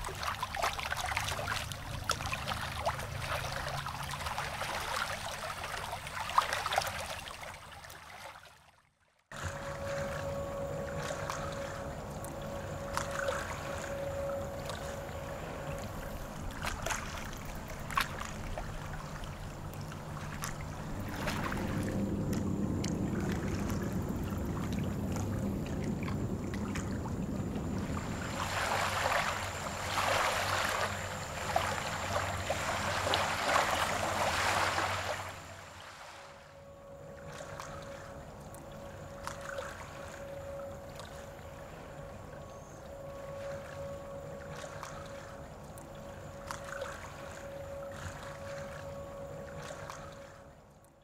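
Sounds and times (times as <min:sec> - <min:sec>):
steady low hum: 0:00.0 - 0:07.6, 0:09.3 - 0:51.0
water sloshing and splashing: 0:00.0 - 0:51.0.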